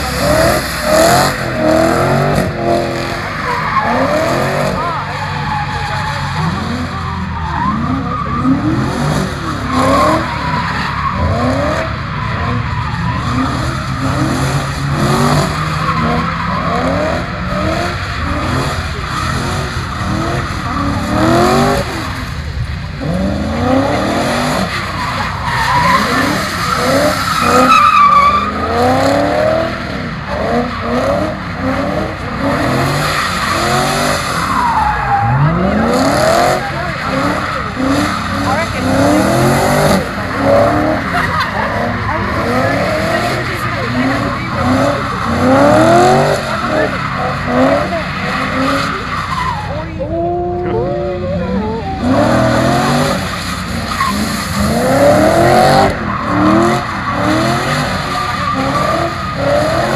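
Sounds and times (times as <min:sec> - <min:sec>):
car engine revving: 0:00.0 - 0:59.9
tyres squealing and skidding: 0:00.0 - 0:59.9.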